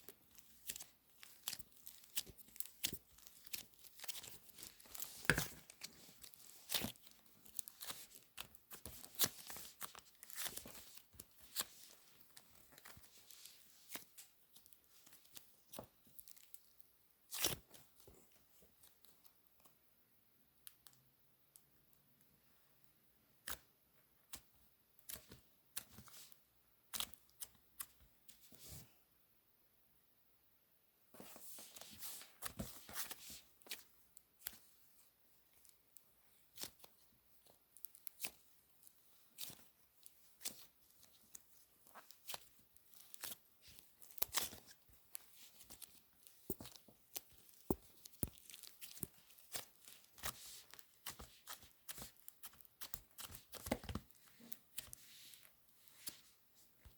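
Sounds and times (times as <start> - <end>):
modelling clay squished by hand: 0.0 - 29.0, 31.2 - 56.9.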